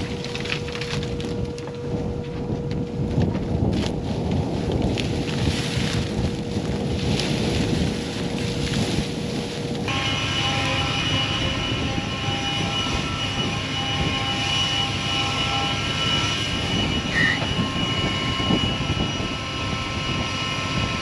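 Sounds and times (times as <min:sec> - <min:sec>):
air blower whining: 0:00.0 - 0:21.0.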